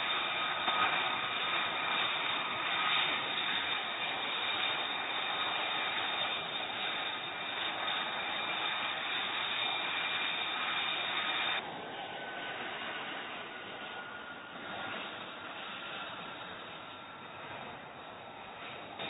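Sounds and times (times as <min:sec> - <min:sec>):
jet engine running: 0:00.0 - 0:19.0.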